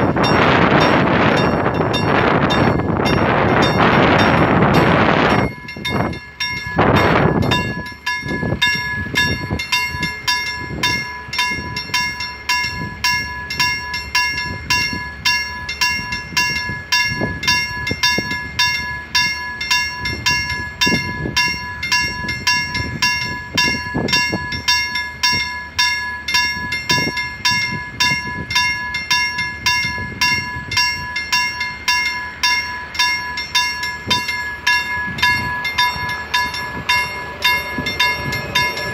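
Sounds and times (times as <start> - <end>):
crossing warning bell ringing: 0.0 - 38.9
freight train wagons rolling: 0.0 - 38.9.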